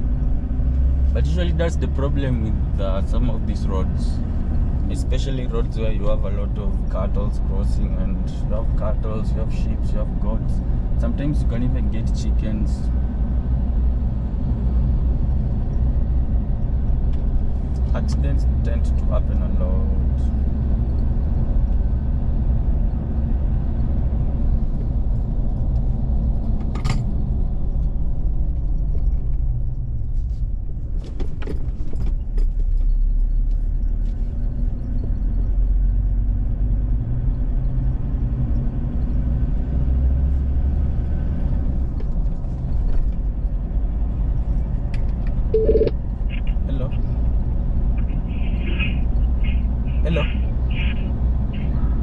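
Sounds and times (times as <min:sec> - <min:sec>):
vehicle road noise rumble: 0:00.0 - 0:52.0.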